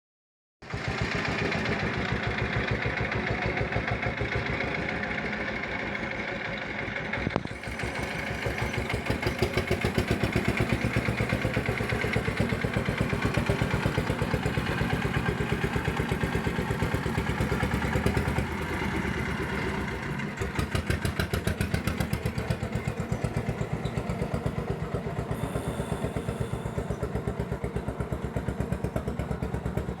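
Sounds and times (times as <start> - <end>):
vehicle engine pulsing: 0.6 - 30.0.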